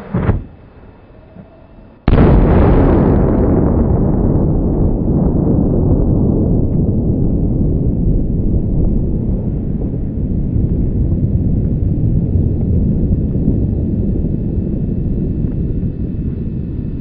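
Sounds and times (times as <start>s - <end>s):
loud low rumble: 0.0s - 17.0s.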